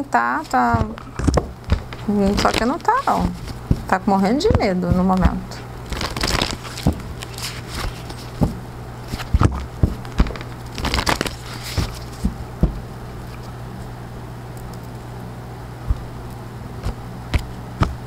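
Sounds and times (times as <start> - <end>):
steady low hum: 0.0 - 18.0
cards being shuffled: 0.4 - 13.6, 15.9 - 18.0.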